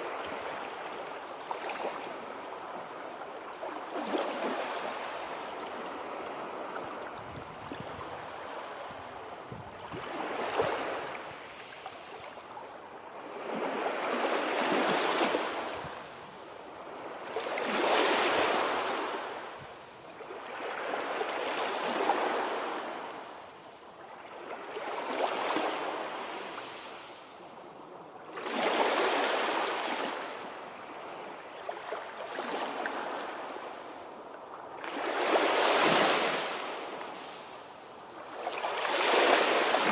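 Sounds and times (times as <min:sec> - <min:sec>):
sea waves breaking on shore: 0:00.0 - 0:23.5, 0:24.1 - 0:27.3, 0:28.2 - 0:39.9.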